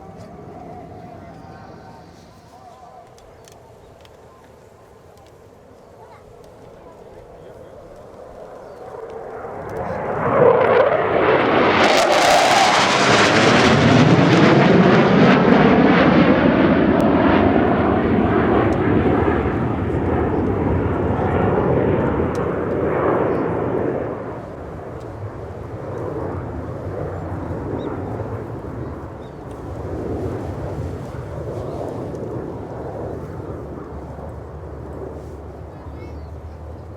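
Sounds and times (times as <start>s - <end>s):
jet engines passing overhead: 0.0s - 36.9s.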